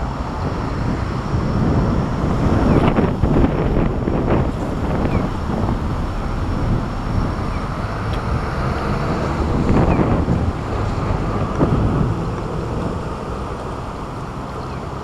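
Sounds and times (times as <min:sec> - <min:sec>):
strong gusting wind on microphone: 0:00.0 - 0:15.0.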